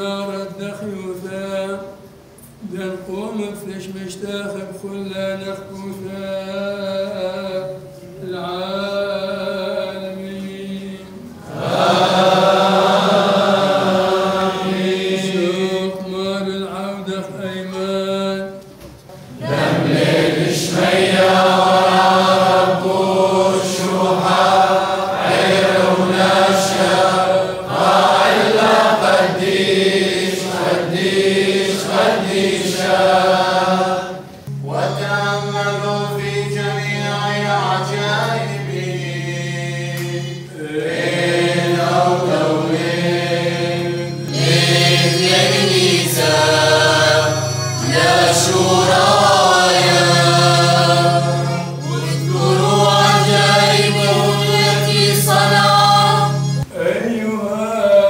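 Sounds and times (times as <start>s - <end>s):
men singing a liturgical chant: 2.7s - 18.4s, 19.4s - 34.2s, 34.8s - 56.1s, 56.7s - 58.0s.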